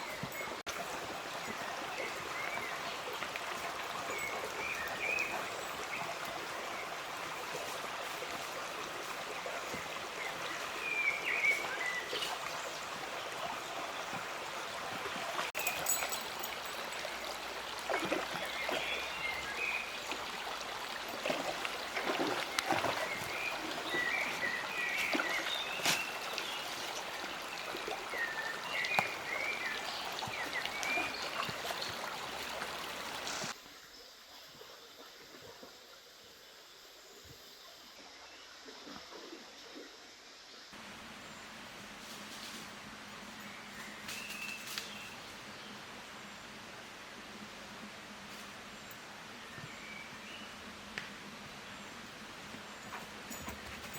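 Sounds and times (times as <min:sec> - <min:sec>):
stream running: 0:00.0 - 0:53.9.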